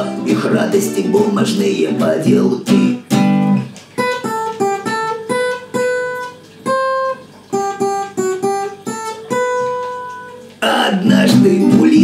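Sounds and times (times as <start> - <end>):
acoustic guitar picked notes: 0.0 - 12.0.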